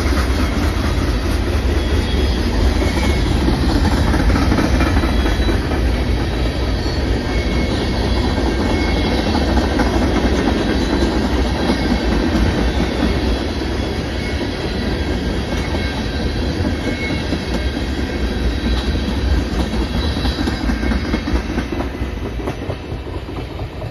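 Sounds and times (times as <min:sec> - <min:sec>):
faint high wheel squeal: 0:00.0 - 0:23.0
freight train wheels rumbling: 0:00.0 - 0:23.9.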